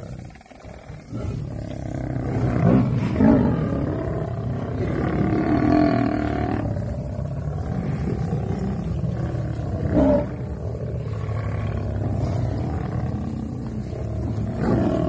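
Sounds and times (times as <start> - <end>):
deep roaring animal calls: 0.0 - 15.0.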